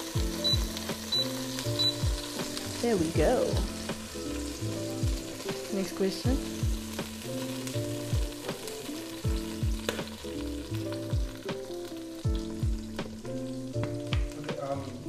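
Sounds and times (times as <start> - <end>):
background music with bass drum: 0.0 - 15.0
food sizzling in oil: 0.0 - 15.0.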